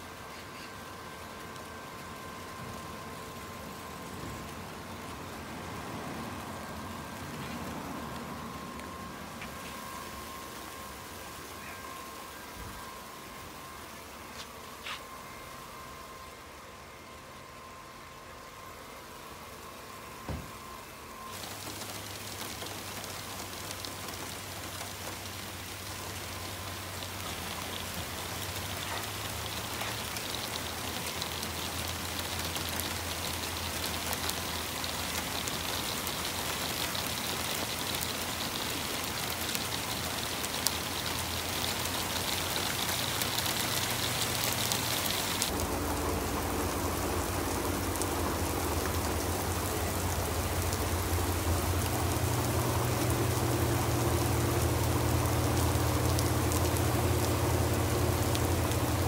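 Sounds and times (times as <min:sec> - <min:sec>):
faint hum: 0:00.0 - 0:59.0
rain pattering on wet surfaces: 0:00.0 - 0:59.0.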